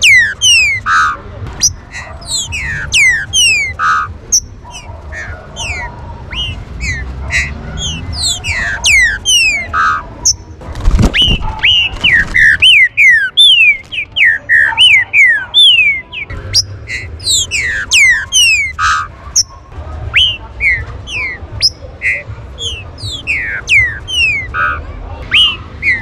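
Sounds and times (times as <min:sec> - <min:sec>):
birds whistling sharp notes: 0:00.0 - 0:26.0.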